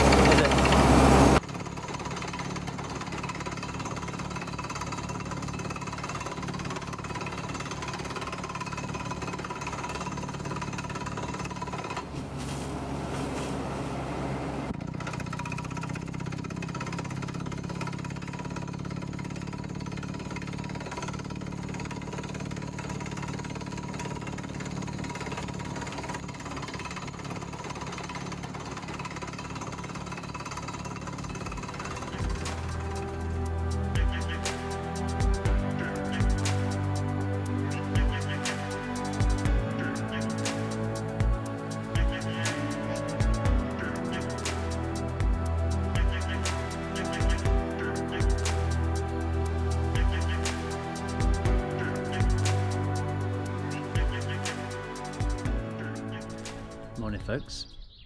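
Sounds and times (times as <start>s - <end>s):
drilling rig engine running: 0.0s - 57.5s.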